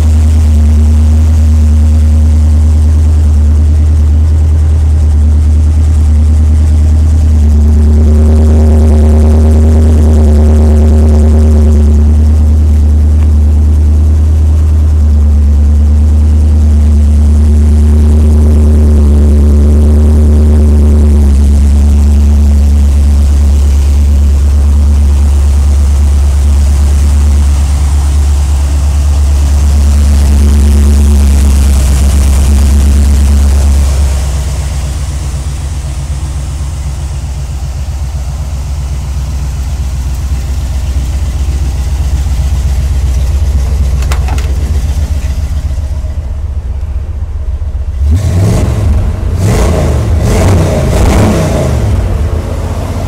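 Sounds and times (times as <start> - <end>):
engine revving: 0.0 - 38.3, 39.0 - 53.0
engine idling: 0.0 - 53.0.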